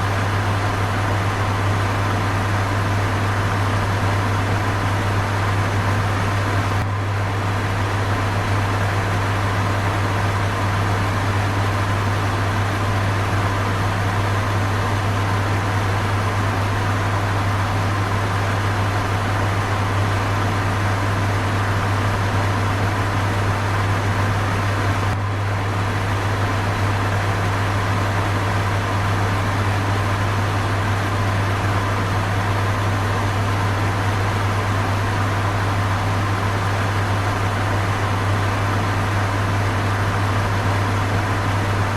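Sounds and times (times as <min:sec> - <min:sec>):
fan motor hum: 0:00.0 - 0:41.9.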